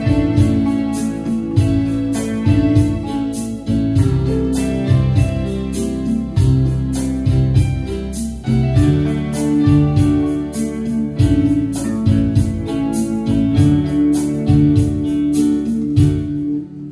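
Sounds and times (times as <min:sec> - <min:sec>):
digital piano playing: 0:00.0 - 0:16.9
electric guitar: 0:00.0 - 0:16.9
steady beat: 0:00.0 - 0:16.9.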